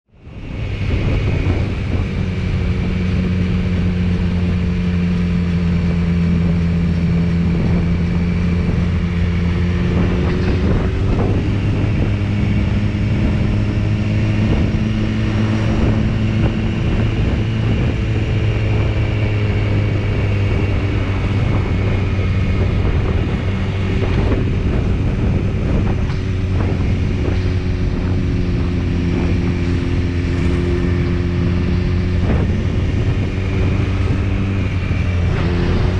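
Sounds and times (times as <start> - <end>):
wind noise on microphone: 0.1 - 35.9
motorcycle engine running: 0.3 - 35.9.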